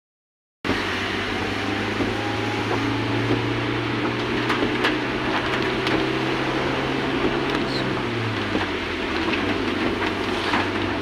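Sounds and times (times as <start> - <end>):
vehicle engine running: 0.7 - 11.0.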